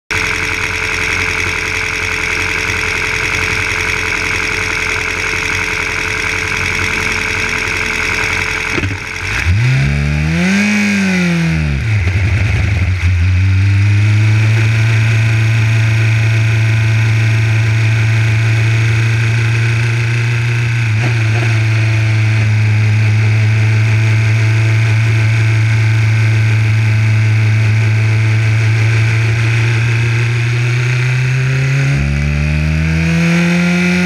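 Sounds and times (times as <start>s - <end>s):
racing car engine revving: 0.1s - 34.0s.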